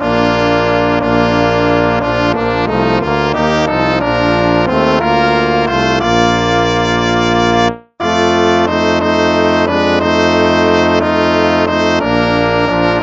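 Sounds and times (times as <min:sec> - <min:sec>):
brass-like instrumental music: 0:00.0 - 0:13.0.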